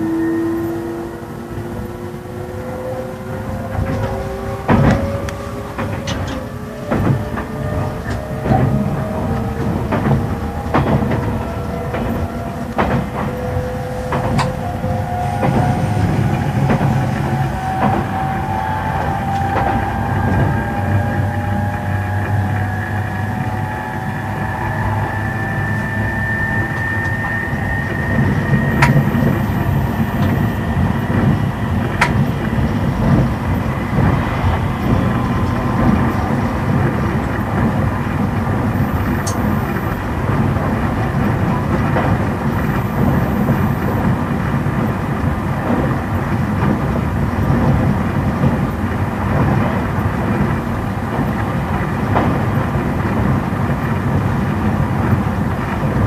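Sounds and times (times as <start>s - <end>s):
electric train motor whine: 0.0s - 56.0s
wheels rumbling on rail: 0.0s - 56.0s.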